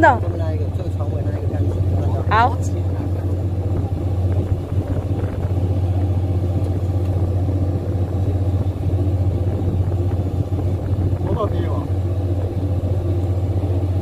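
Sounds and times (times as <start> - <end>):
boat engine drone: 0.0 - 14.0.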